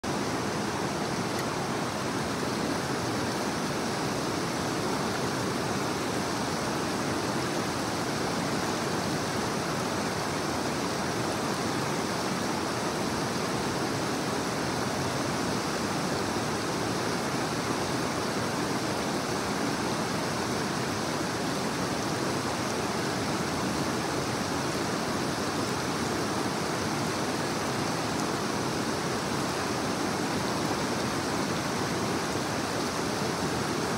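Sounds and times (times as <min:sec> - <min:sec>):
creek water rushing over rocks: 0:00.0 - 0:33.9.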